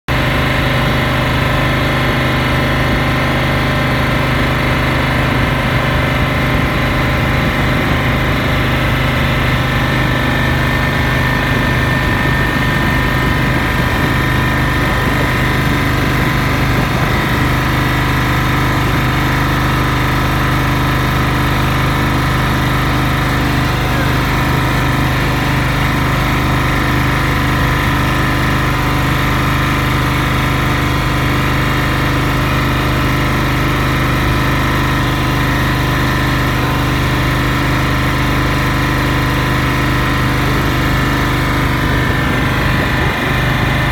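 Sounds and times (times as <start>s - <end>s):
boat engine droning: 0.1s - 43.9s.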